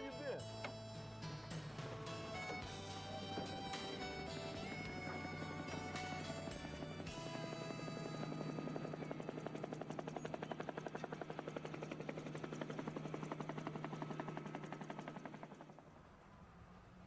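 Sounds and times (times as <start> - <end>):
helicopter rotor chopping: 0.0 - 16.2.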